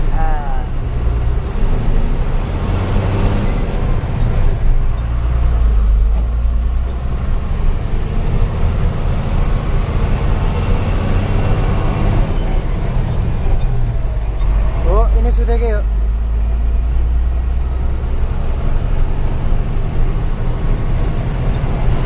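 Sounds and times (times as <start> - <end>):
diesel truck engine drone: 0.0 - 22.0
road noise: 0.0 - 22.0.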